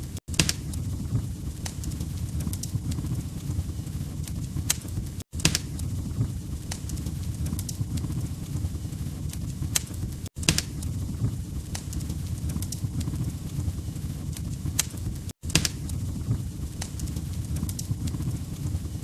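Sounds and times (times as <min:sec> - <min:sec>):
log fire crackling and popping: 0:00.0 - 0:19.0.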